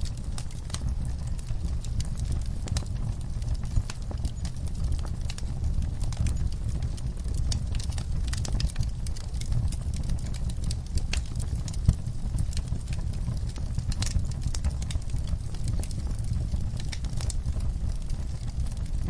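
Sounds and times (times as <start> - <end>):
fire flames rumbling: 0.0 - 19.0
logs crackling and popping: 0.0 - 19.0.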